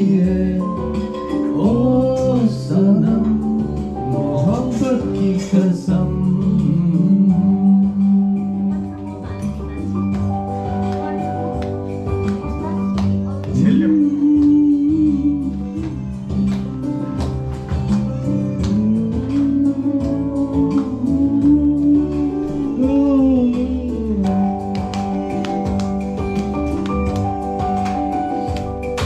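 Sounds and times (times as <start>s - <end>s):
guitar-led backing track: 0.0s - 29.0s.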